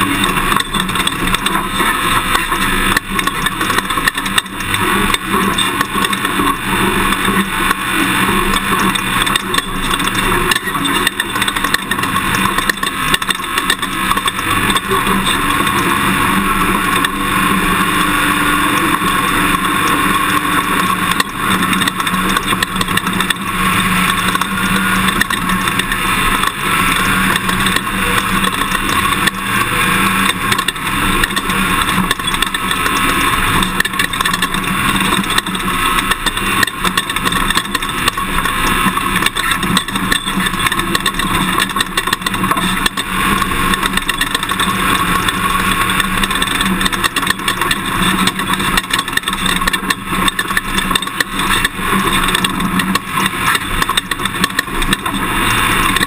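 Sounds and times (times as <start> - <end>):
knocks and rattles: 0.0 - 56.0
road and wind noise: 0.0 - 56.0
truck engine running: 0.0 - 56.0.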